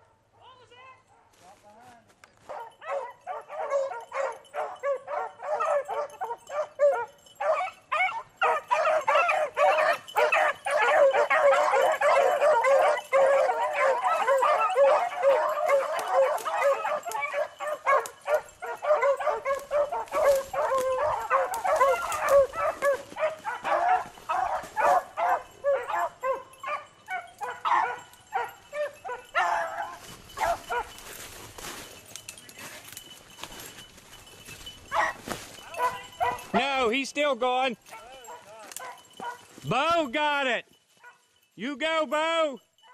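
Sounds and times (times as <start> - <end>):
dogs baying: 2.4 - 39.6.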